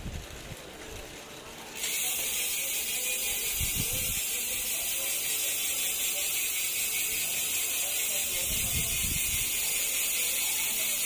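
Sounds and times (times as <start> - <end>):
bicycle hub freewheeling buzz: 0.0 - 11.0.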